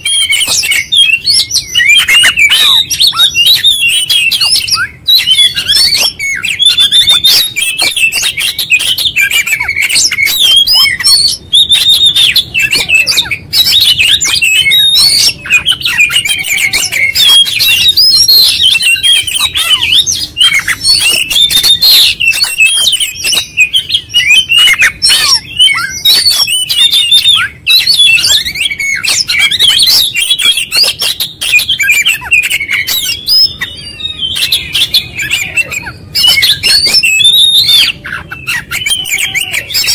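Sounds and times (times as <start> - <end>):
bird singing varied chirps: 0.0 - 39.9.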